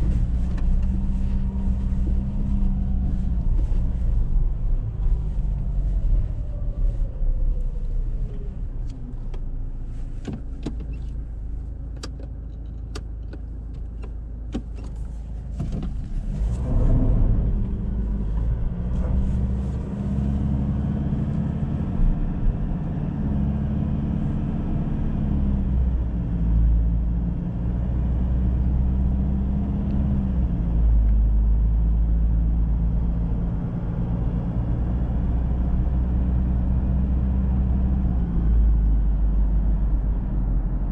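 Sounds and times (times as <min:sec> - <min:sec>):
pickup truck engine drone: 0:00.0 - 0:09.8, 0:15.5 - 0:40.9
road noise: 0:00.0 - 0:40.9.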